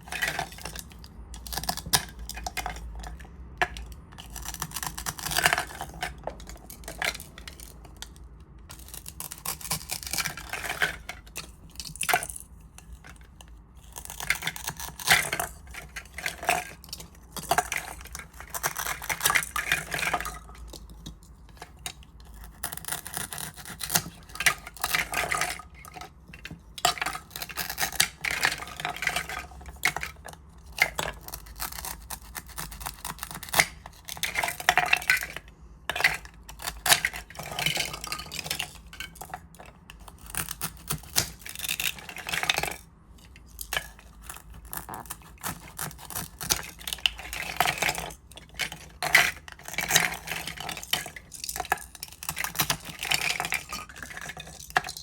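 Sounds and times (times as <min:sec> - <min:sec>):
scratching and rustling of small objects: 0:00.0 - 0:55.0.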